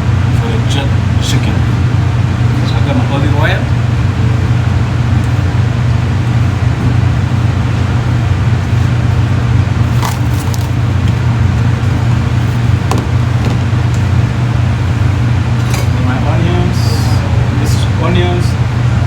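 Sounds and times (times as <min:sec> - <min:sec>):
ventilation fan humming: 0:00.0 - 0:19.0.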